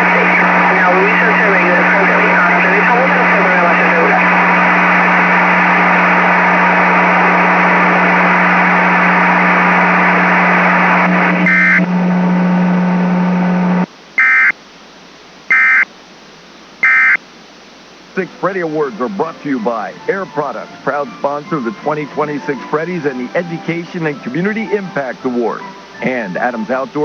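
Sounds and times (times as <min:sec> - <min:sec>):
broadcast static: 0:00.0 - 0:27.0
steady low hum: 0:00.0 - 0:27.0.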